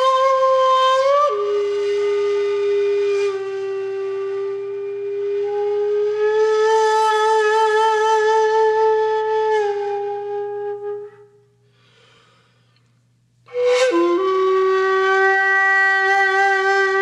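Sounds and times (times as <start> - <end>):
wind instrument long notes: 0.0 - 11.4, 13.5 - 17.0.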